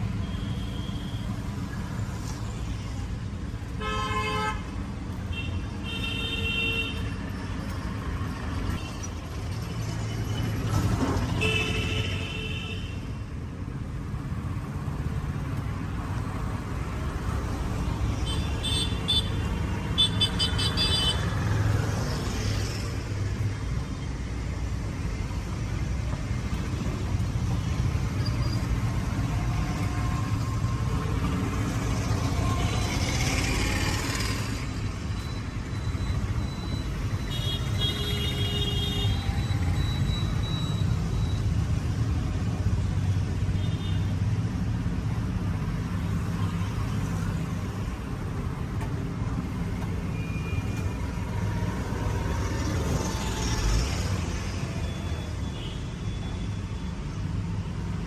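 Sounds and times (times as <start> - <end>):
street traffic rumbling: 0.0 - 58.0.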